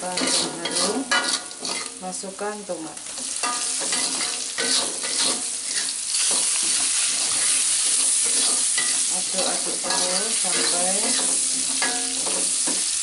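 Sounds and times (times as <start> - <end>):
metal spatula scraping pan: 0.0 - 2.0, 3.3 - 12.9
food sizzling in hot oil: 0.0 - 13.0.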